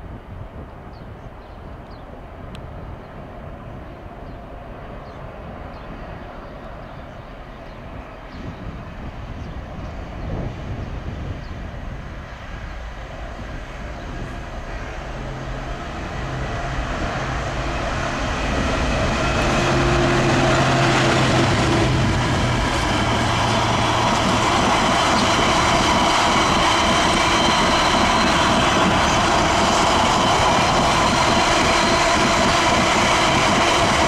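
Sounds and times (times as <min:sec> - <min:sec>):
diesel locomotive engine drumming: 0:02.3 - 0:34.0.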